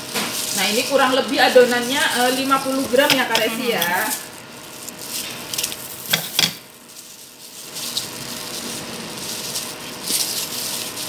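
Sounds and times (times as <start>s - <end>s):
leaf and plastic gloves rustling: 0.0s - 11.0s.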